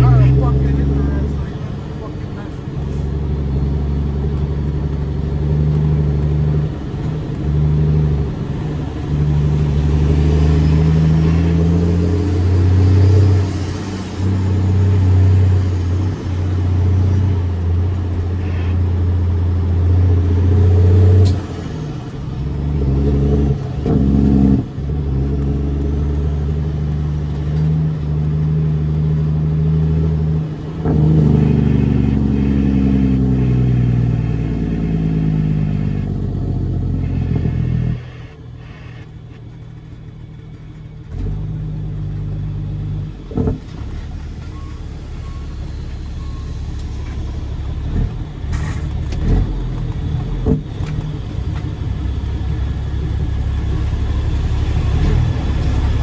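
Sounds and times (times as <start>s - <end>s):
diesel truck engine: 0.0s - 56.0s.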